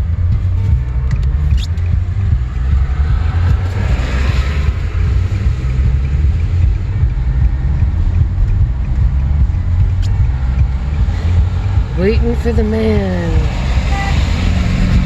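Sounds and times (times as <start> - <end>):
vehicle driving rumble: 0.0 - 15.0.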